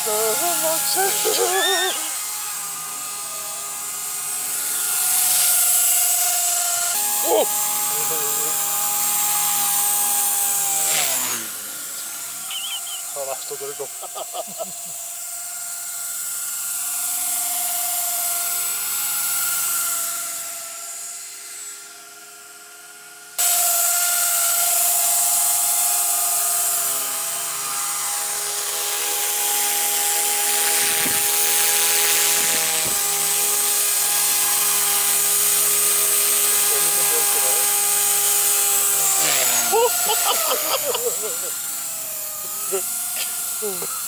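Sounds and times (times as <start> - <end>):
rc helicopter high whine: 0.0 - 44.0.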